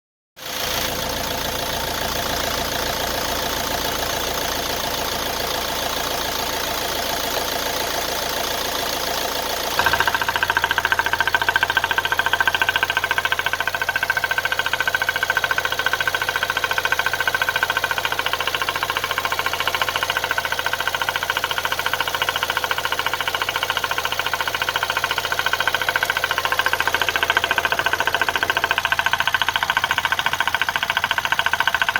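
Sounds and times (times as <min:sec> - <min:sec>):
diesel engine idling with knocking: 0:00.5 - 0:31.9.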